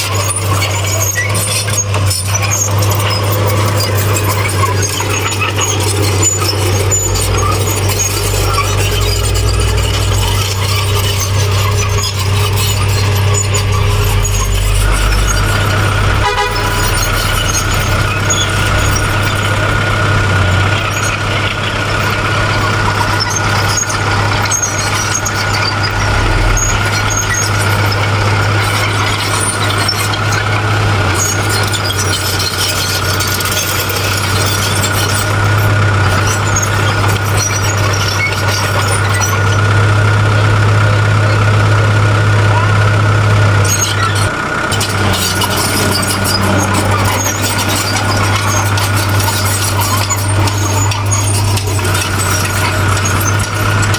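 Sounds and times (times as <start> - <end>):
heavy diesel machinery humming: 0.0 - 53.9.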